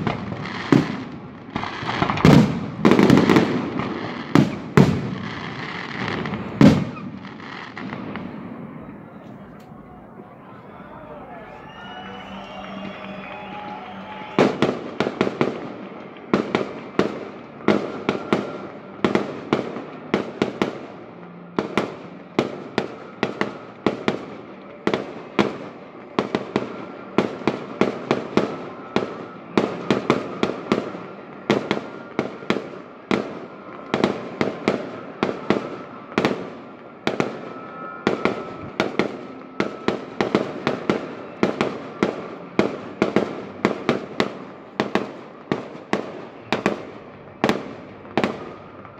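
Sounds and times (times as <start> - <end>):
fireworks exploding: 0.0 - 48.9.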